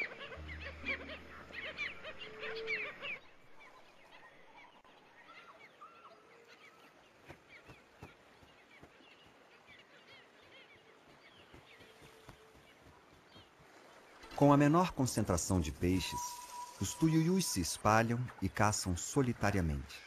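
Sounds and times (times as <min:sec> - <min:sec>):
flock of birds calling: 0:00.0 - 0:13.5, 0:14.1 - 0:20.0.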